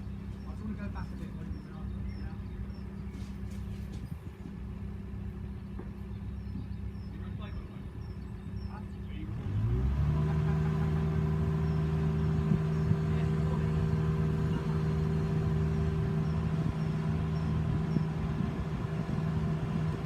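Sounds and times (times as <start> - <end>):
vehicle engine running steadily: 0.0 - 20.0.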